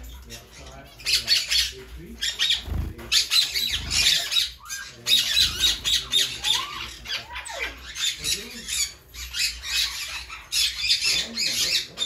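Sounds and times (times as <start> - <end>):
caged birds squawking and chirping: 0.0 - 12.0.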